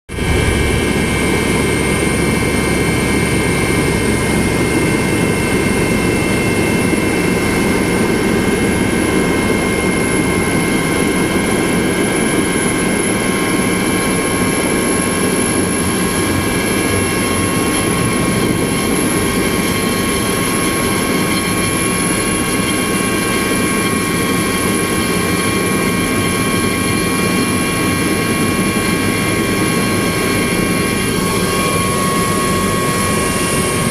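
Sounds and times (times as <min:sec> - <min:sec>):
helicopter rotor noise: 0:00.1 - 0:33.9
high turbine whine: 0:00.1 - 0:33.9.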